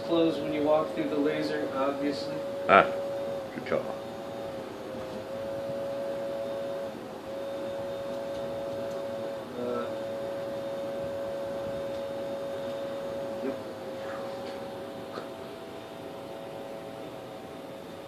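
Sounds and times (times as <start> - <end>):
steady electric whine: 0.0 - 18.0.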